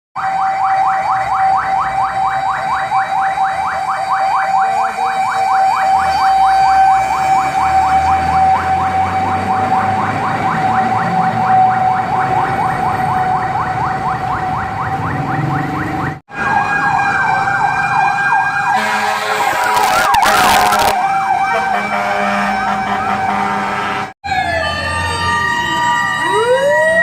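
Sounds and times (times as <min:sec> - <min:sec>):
fire truck siren yelping: 0:00.2 - 0:27.0.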